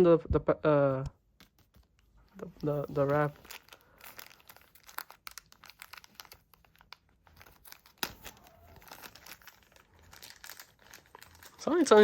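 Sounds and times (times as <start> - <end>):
plastic wrapping crinkling: 1.3 - 12.0.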